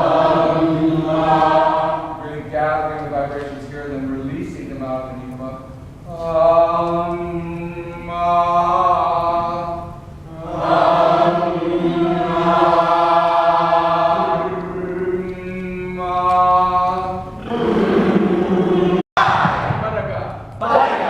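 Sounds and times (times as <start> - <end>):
voices chanting held tones: 0.0 - 19.7, 20.6 - 21.0.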